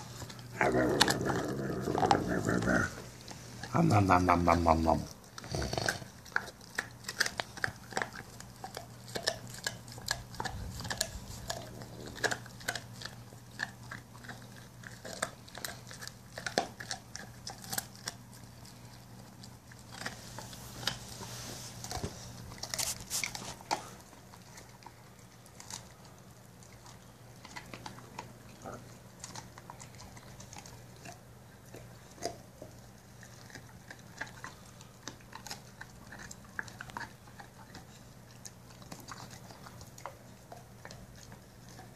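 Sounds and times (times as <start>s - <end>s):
dog chewing on a bone: 0.0s - 41.9s.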